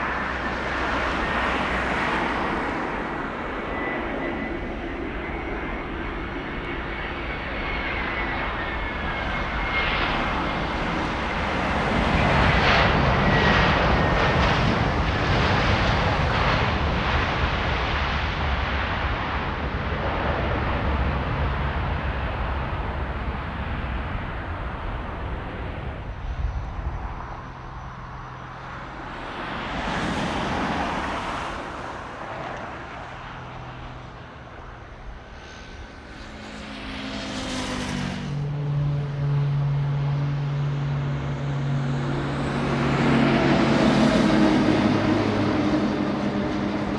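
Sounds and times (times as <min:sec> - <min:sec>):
high engine whine: 0:00.0 - 0:46.9
jet airliner engine noise: 0:00.0 - 0:46.9.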